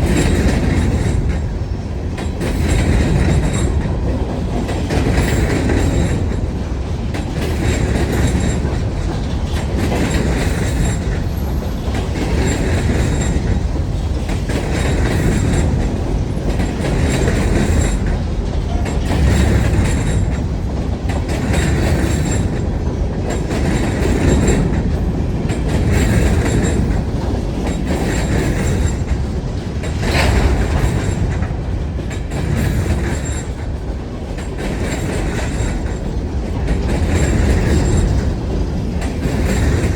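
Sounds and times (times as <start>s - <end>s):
freight train cars rolling: 0.0s - 39.9s
train wheels clattering: 0.0s - 39.9s.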